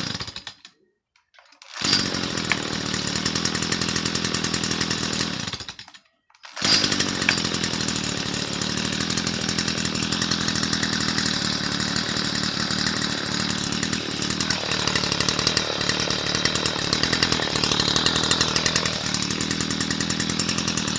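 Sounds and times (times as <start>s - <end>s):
brush cutter engine running: 1.8s - 5.8s, 6.6s - 20.9s.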